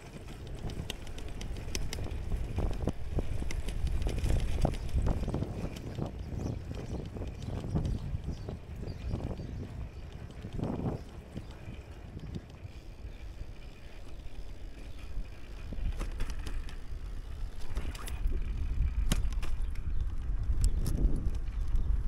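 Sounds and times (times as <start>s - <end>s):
bicycle rolling and wind rumble: 0.0s - 22.0s.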